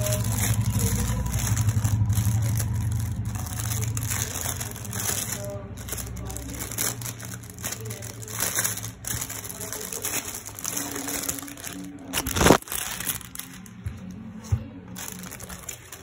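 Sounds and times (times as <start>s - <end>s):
plastic bag crinkling: 0.0s - 13.8s, 14.9s - 16.0s.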